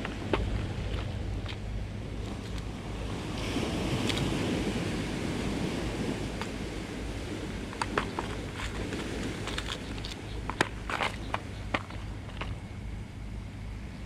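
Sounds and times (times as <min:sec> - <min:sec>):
waves washing over rocks: 0:00.0 - 0:12.5
wind rumble on microphone: 0:00.0 - 0:14.0.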